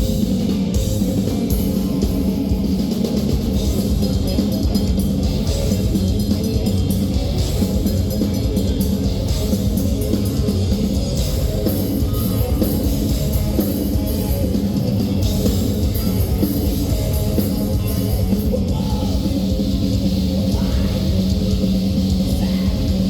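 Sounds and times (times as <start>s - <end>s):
bass guitar: 0.0s - 23.0s
distorted guitars: 0.0s - 23.0s
drums with cymbals: 0.0s - 23.0s.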